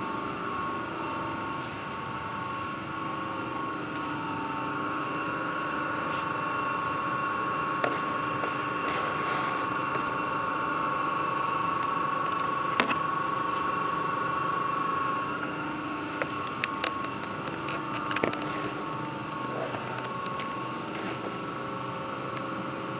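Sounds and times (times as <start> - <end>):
press brake humming and whining: 0.0 - 22.9.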